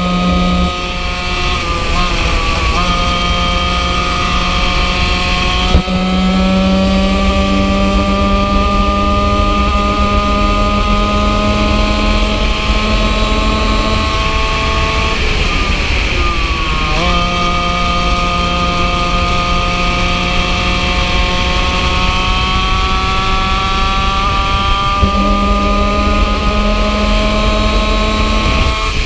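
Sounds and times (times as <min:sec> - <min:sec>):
kart engine revving: 0:00.0 - 0:29.0.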